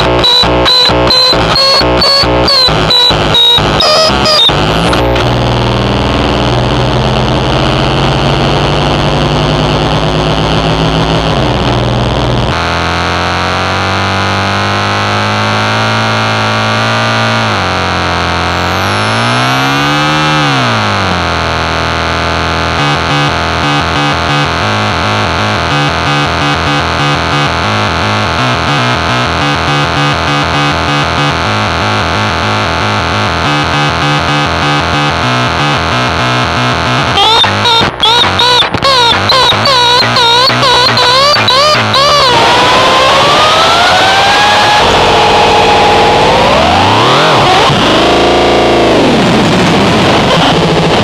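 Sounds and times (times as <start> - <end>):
harsh low synth drone: 0.0 - 51.0.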